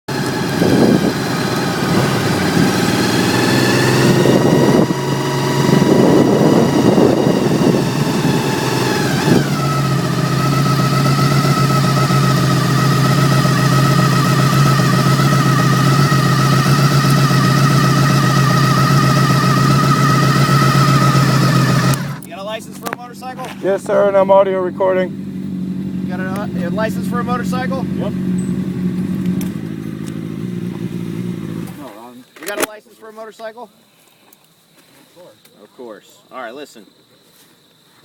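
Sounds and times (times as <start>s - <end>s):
motorcycle engine idling: 0.1s - 31.8s
steady high whine: 0.4s - 31.3s.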